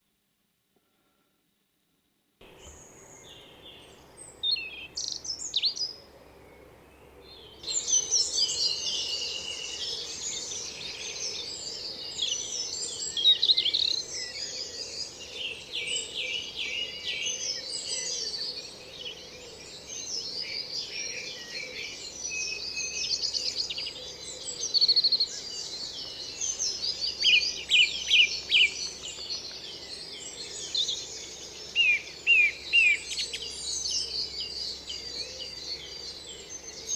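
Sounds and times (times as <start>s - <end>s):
songbirds singing: 2.4s - 36.9s.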